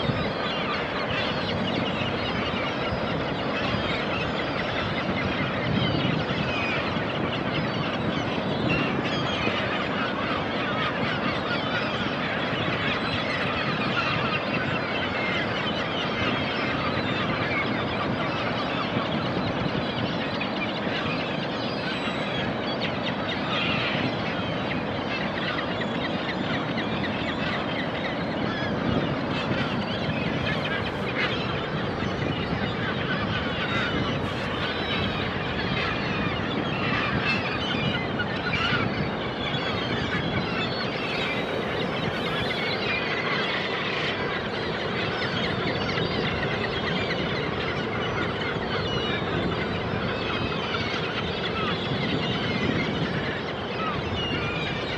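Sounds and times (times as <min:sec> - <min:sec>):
seabirds honking and squawking: 0:00.1 - 0:54.9.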